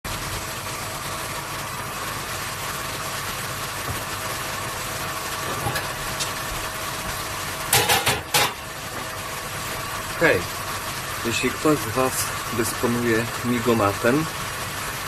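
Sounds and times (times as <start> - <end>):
machine hum: 0.1 - 15.0.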